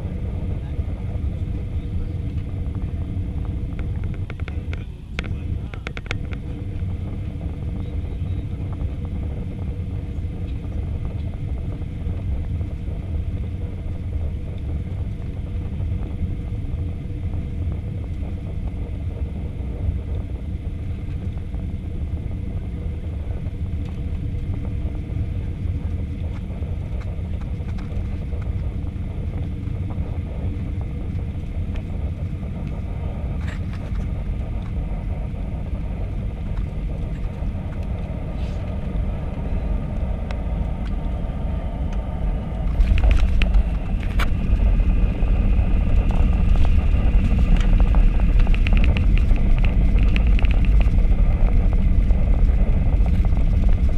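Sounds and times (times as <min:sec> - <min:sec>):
airplane cabin low rumble: 0:00.0 - 0:53.9
faint steady hum: 0:00.0 - 0:53.9.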